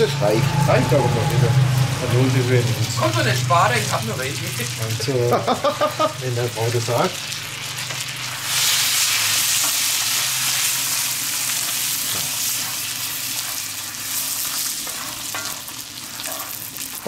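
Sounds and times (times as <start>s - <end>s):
caramel sizzling in skillet: 0.0s - 17.0s.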